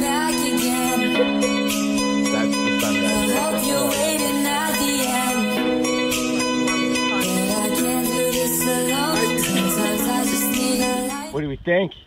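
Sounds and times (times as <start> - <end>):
background music: 0.0 - 11.4.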